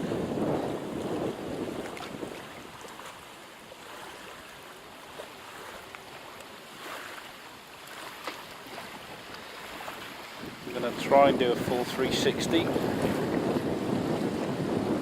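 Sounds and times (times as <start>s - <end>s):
sea waves: 0.0s - 15.0s
wind: 0.0s - 15.0s.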